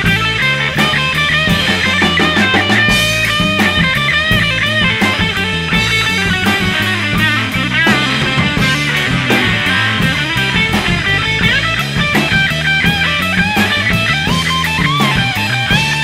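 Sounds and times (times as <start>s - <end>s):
bass guitar: 0.0s - 16.0s
lead guitar solo with bent notes: 0.0s - 16.0s
steady drum beat: 0.0s - 16.0s.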